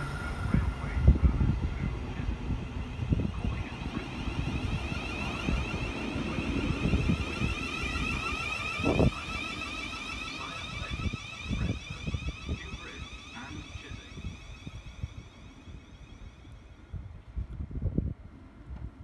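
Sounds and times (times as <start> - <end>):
electric train whine: 0.0 - 19.0
wind rumble on microphone: 0.0 - 19.0.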